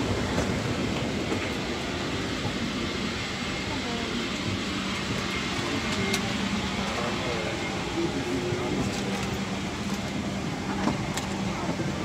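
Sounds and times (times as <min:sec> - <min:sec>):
faint passengers' voices: 0:00.0 - 0:12.0.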